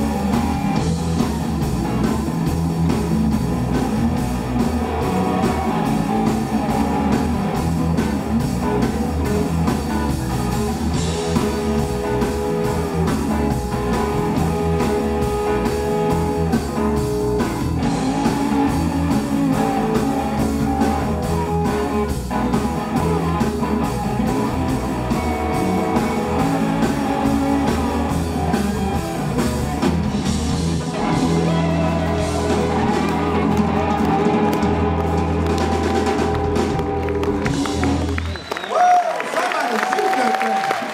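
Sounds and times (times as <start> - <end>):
electric guitar bending lead notes: 0.0 - 38.4
electric blues band playing: 0.0 - 38.7.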